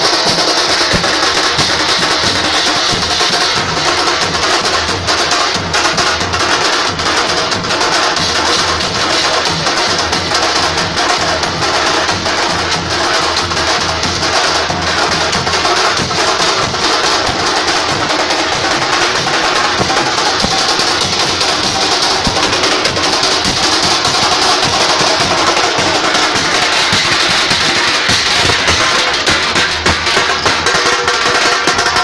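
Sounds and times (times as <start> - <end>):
fast percussion drum beats: 0.0 - 32.0.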